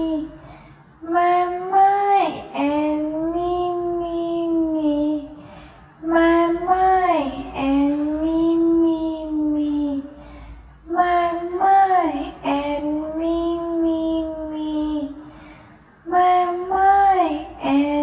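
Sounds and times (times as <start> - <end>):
high voice singing long notes: 0.0 - 15.4, 16.0 - 18.0.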